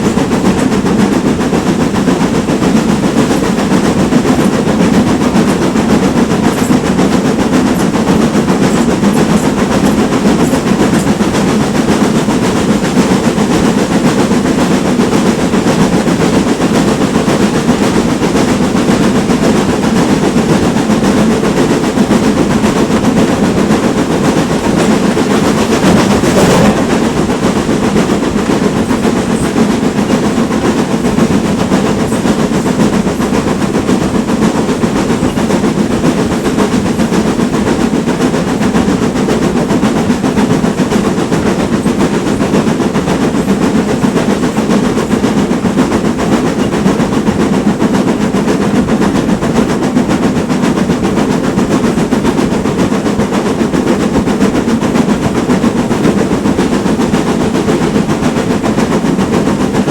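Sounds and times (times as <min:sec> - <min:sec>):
steam locomotive exhaust beating: 0:00.0 - 0:59.9
train wheels clattering on rails: 0:00.0 - 0:59.9.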